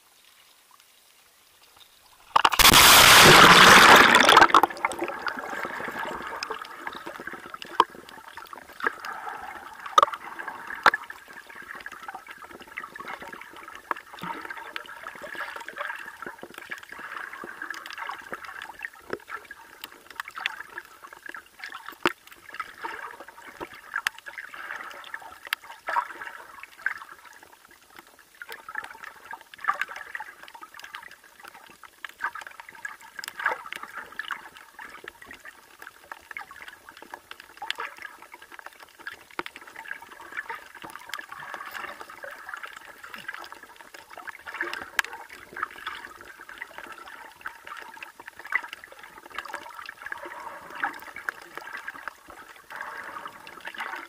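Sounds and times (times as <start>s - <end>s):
underwater sloshing and gurgling: 0.0s - 54.0s
underwater clicks and ticks: 0.1s - 54.0s.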